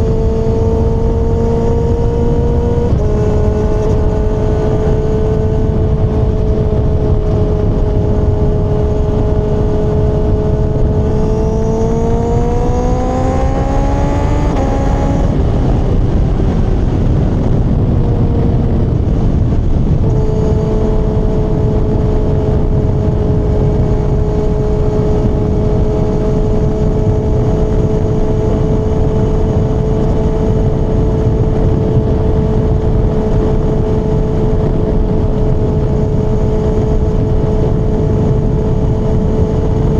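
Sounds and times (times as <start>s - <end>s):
motorcycle engine cruising: 0.0s - 39.9s
wind rush: 0.0s - 39.9s.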